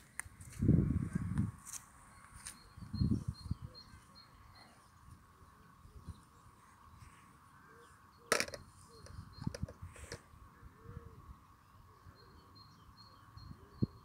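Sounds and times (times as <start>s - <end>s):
faint bird calls: 2.1s - 14.0s.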